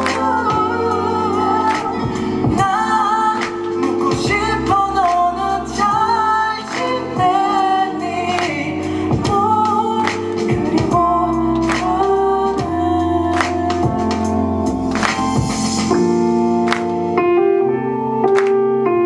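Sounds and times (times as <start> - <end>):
regular drum beat: 0.0 - 16.8.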